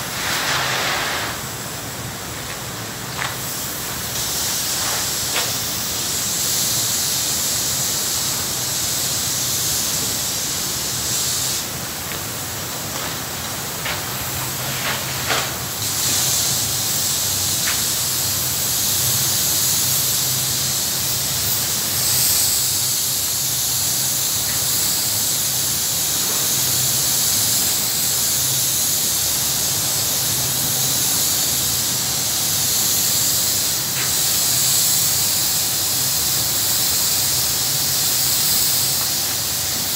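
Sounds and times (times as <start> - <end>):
spray gun hissing: 0.0 - 39.9.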